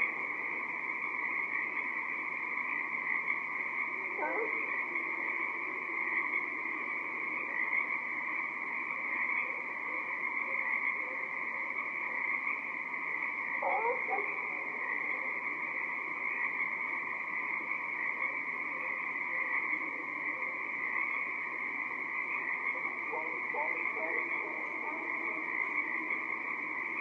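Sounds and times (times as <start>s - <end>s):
tree frogs chorus: 0.0s - 27.0s.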